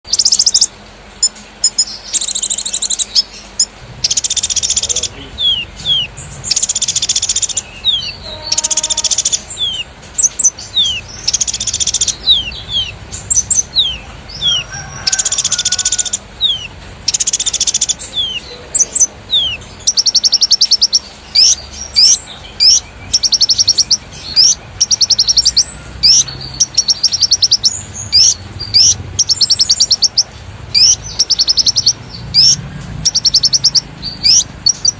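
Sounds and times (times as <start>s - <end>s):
songbird buzzy trills: 0.0s - 34.9s.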